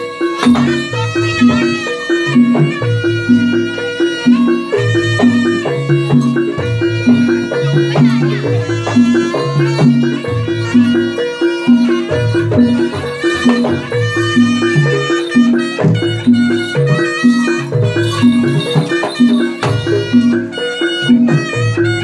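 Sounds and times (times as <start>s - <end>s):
reedy melody line: 0.0s - 22.0s.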